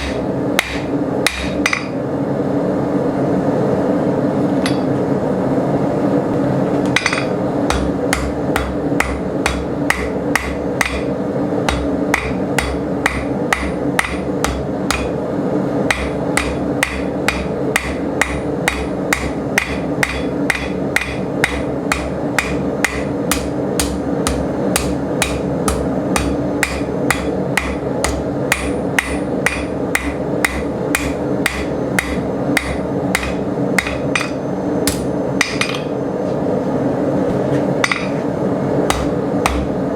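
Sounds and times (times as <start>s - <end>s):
hammer striking steel on anvil: 0.0s - 2.0s, 4.6s - 5.0s, 6.9s - 15.2s, 15.9s - 36.0s, 37.3s - 38.2s, 38.9s - 39.8s
steady hum: 0.0s - 39.9s.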